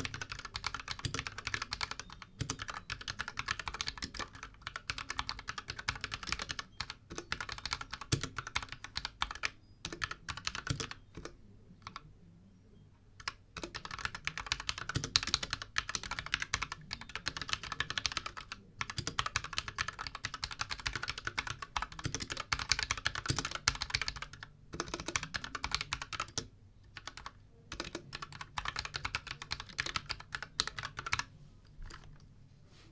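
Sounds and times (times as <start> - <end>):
mechanical keyboard typing: 0.0 - 12.0, 13.2 - 32.2.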